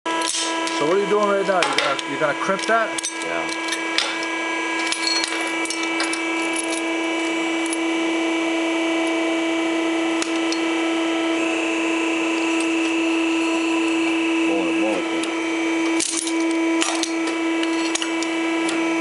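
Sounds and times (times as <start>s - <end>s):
crimping press humming: 0.3s - 19.0s.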